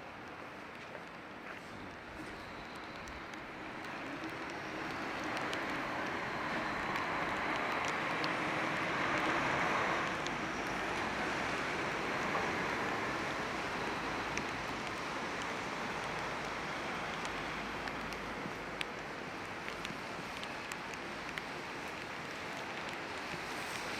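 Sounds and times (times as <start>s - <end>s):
traffic on wet road: 0.1s - 23.9s
light drip ticks: 0.2s - 23.9s
rain hissing: 1.6s - 23.9s.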